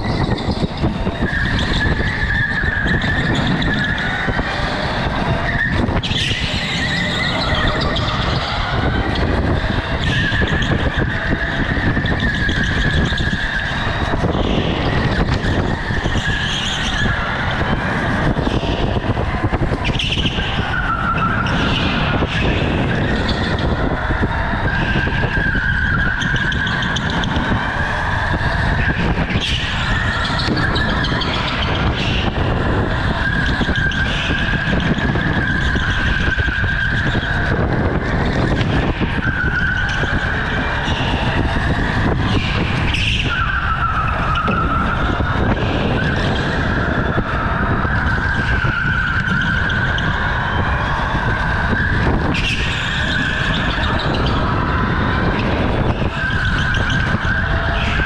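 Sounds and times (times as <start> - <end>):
electric go-kart motor whining: 0.0 - 58.0.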